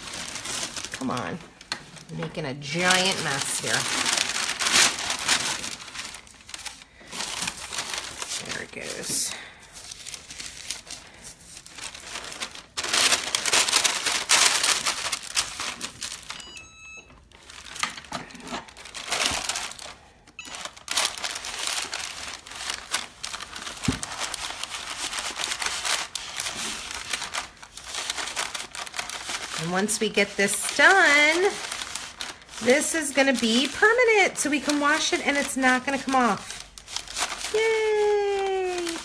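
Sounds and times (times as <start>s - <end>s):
parchment paper crinkling: 0.0s - 16.4s, 17.2s - 39.0s.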